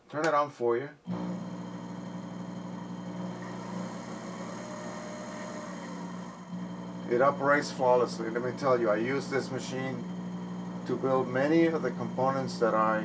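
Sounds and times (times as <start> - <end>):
milling machine motor humming: 1.1 - 13.0.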